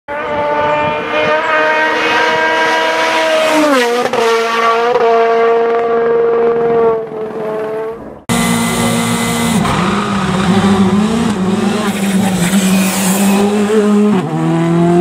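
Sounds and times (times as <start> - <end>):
race car engine revving: 0.1 - 15.0.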